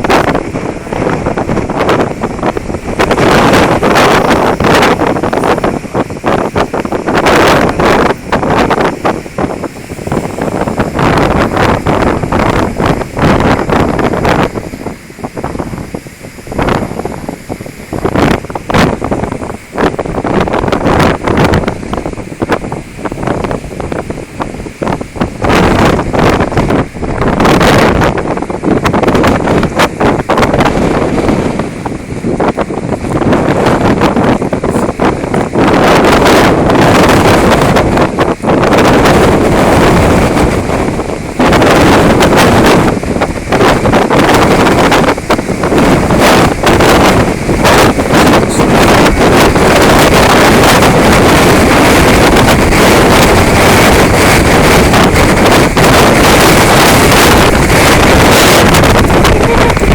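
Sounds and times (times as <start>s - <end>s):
strong wind on microphone: 0.0s - 59.9s.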